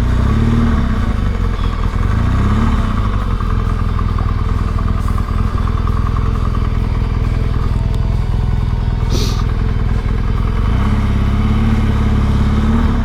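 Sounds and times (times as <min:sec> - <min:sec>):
motorcycle engine low putter: 0:00.0 - 0:13.0.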